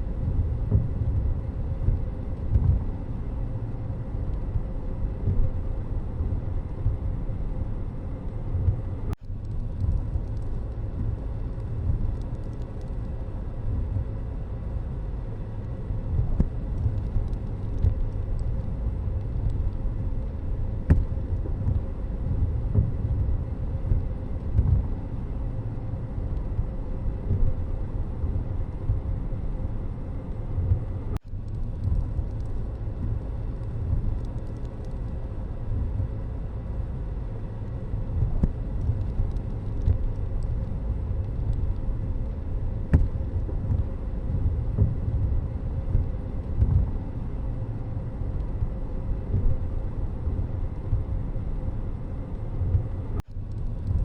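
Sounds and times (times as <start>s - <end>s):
moving vehicle: 0.0s - 54.0s
road traffic rumble: 0.0s - 54.0s.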